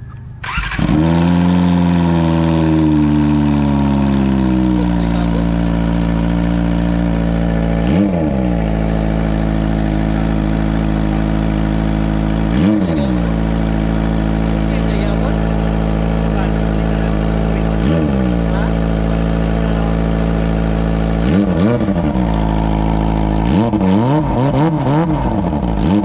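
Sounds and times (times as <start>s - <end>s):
engine throttle blips: 0.0s - 26.0s
motorcycle engine idling loudly: 0.4s - 26.0s.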